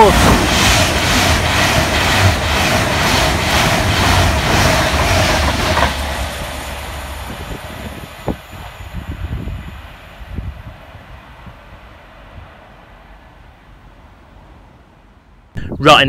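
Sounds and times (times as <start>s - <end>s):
electric train passing at speed: 0.0s - 15.6s.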